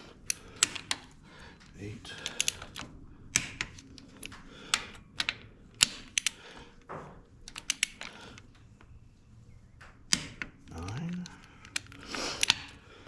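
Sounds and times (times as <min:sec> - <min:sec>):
hand ratchet clicking: 0:00.0 - 0:06.8, 0:07.5 - 0:08.5, 0:10.1 - 0:13.0.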